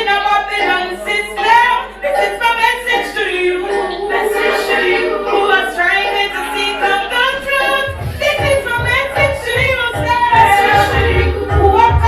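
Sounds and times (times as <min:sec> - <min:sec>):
high-pitched young voices singing: 0:00.0 - 0:12.0
music: 0:00.0 - 0:12.0.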